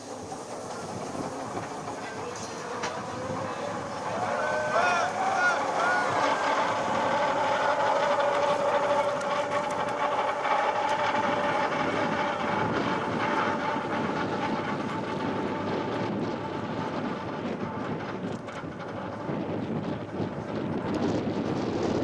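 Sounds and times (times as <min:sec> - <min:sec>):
train clatter and rumble: 0:00.0 - 0:22.0.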